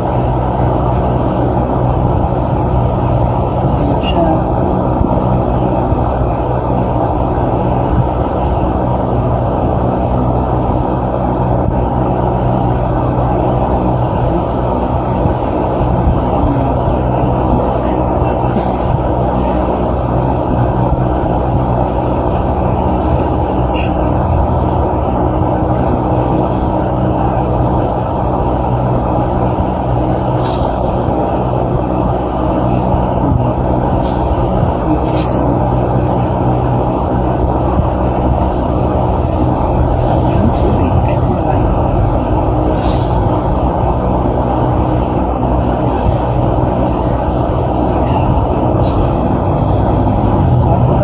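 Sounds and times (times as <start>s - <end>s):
constant hum: 0.0s - 51.0s
loud low drone: 0.0s - 51.0s.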